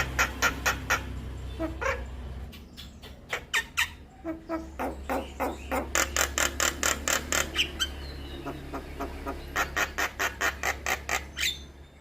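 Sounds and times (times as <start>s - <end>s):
bird calling harsh notes: 0.0s - 11.8s.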